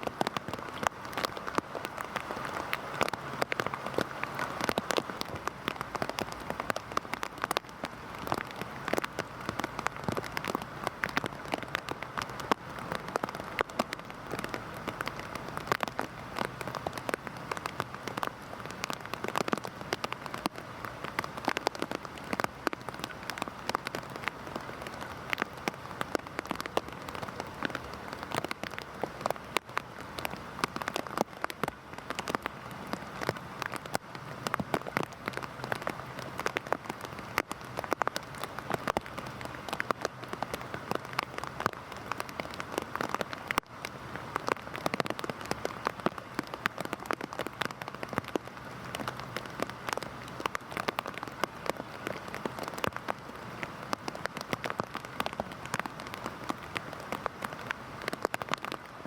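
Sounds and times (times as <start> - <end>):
heavy rain: 0.0 - 59.0
raindrops pattering on a surface: 0.0 - 59.0.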